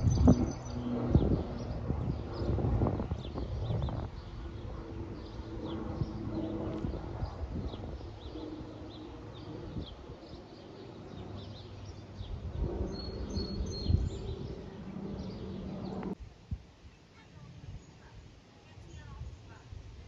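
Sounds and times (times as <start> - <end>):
small birds chirping: 0.0 - 16.2, 16.8 - 19.8
aircraft rumbling overhead: 0.0 - 20.0.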